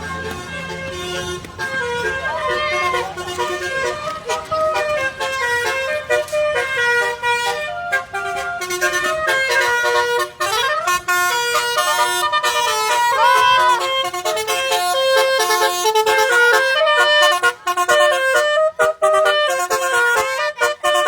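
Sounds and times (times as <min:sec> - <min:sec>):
multi-tone bus horn tune: 0:00.0 - 0:21.0.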